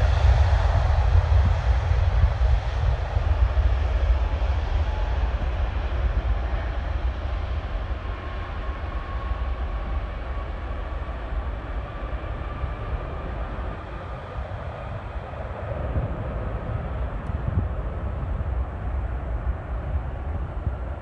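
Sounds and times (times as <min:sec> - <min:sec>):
jet engines at takeoff thrust: 0:00.0 - 0:21.0.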